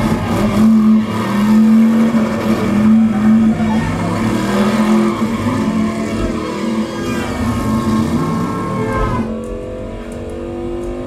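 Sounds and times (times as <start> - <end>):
car engine running hard: 0.0 - 11.0
traffic noise: 0.0 - 11.0.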